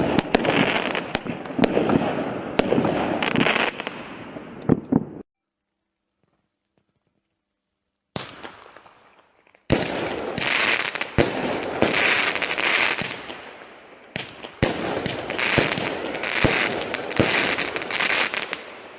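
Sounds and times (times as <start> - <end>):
firework barrage shots and crackle: 0.0 - 5.2, 8.1 - 18.9
sharp firework report: 0.0 - 5.2, 8.2 - 18.9.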